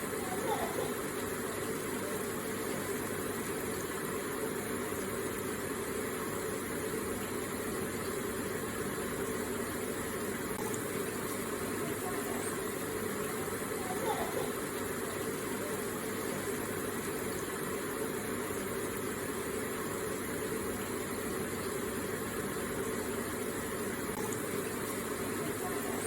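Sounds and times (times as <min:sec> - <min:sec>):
water running and splashing: 0:00.0 - 0:26.0.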